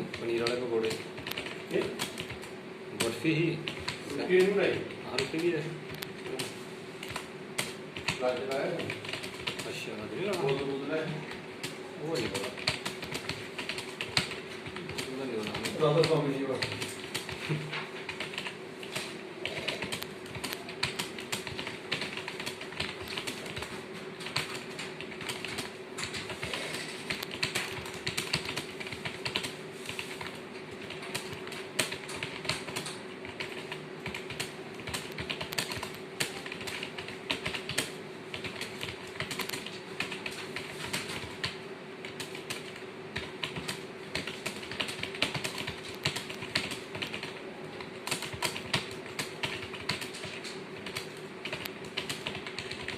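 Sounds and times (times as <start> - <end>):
fast typing on keyboard: 0.0 - 52.9.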